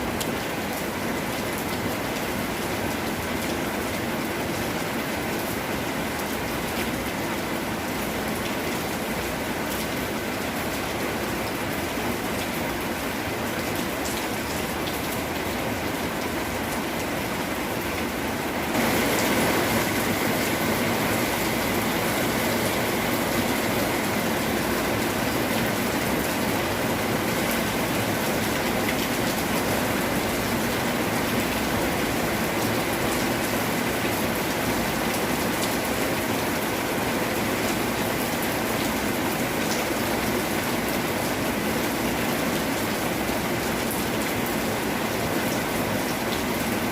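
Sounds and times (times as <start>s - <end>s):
steady rain hiss and patter: 0.0s - 46.9s.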